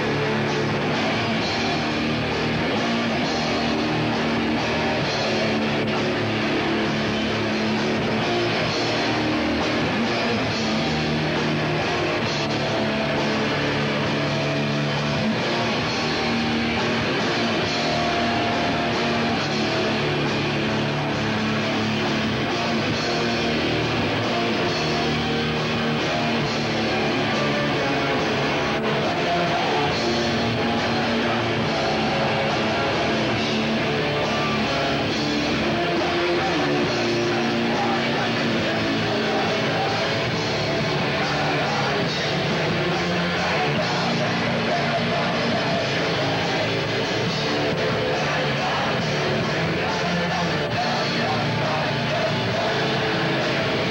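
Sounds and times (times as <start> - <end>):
drum kit: 0.0 - 53.9
electric guitars: 0.0 - 53.9.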